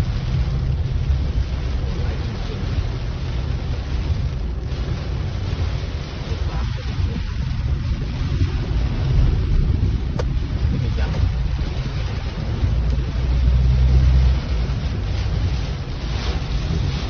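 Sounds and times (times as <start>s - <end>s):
rain: 0.0s - 17.0s
storm wind: 0.0s - 17.0s
wind buffeting microphone: 3.0s - 17.0s.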